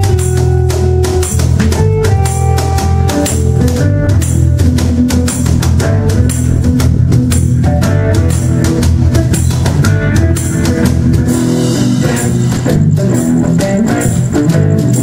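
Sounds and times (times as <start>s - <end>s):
bass guitar: 0.0s - 15.0s
drum kit beat: 0.0s - 15.0s
guitar: 0.0s - 15.0s.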